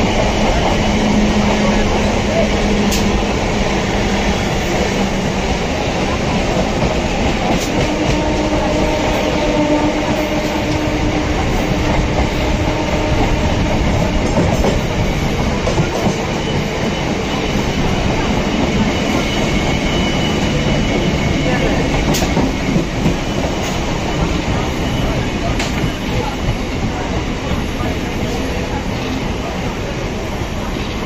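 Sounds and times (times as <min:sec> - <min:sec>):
train wheels rumbling on rails: 0:00.0 - 0:31.0
clickety-clack over rail joints: 0:00.1 - 0:03.4, 0:04.4 - 0:28.4.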